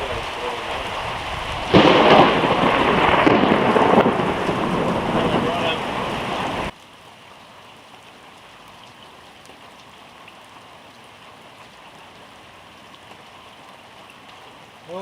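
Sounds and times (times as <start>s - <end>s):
rain drop ticks: 0.0s - 7.0s, 7.7s - 15.0s
rumble of heavier rain: 0.0s - 15.0s
steady rain hiss: 0.0s - 15.0s.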